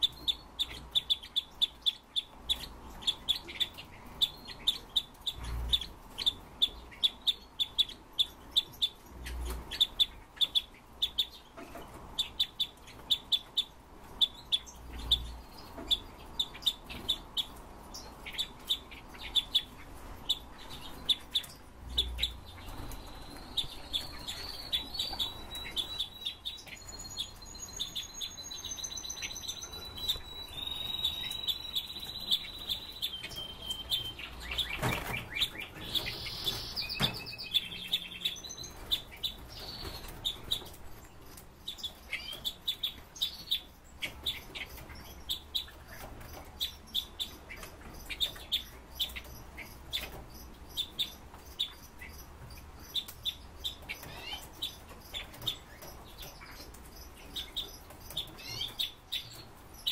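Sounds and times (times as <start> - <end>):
bird chirping and singing: 0.0 - 59.9.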